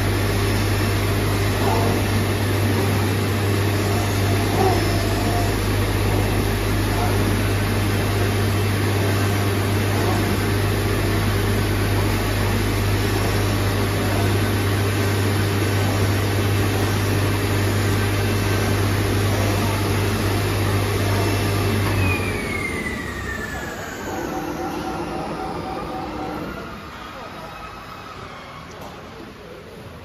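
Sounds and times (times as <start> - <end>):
motor spinning down whine: 0.0 - 27.7
cutting machine hum and whir: 0.0 - 30.0.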